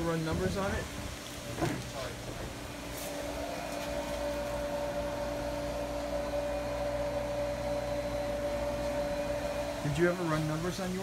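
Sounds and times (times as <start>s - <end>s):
electric motor humming and whining: 0.0s - 11.0s.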